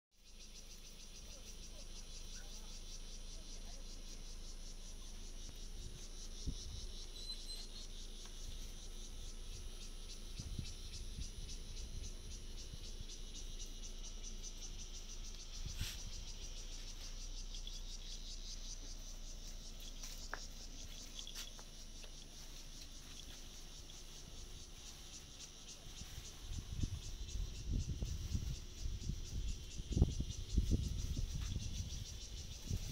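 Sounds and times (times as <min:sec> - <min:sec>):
insects shrilling: 0:00.3 - 0:32.9.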